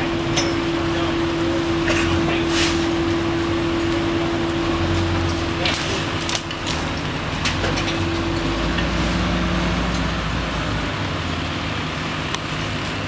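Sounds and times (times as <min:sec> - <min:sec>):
fire engine diesel engine running: 0:00.0 - 0:13.0.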